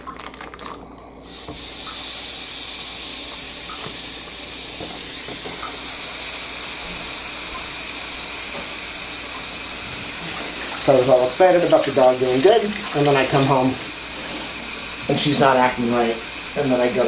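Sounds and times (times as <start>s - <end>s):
meat sizzling on grill: 1.2s - 17.0s.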